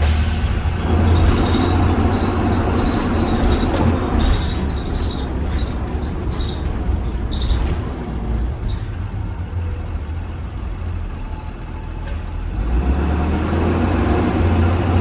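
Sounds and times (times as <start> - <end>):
rattles and clicks from bus body: 0.0 - 13.0, 13.7 - 15.0
bus engine and road rumble: 0.0 - 15.0.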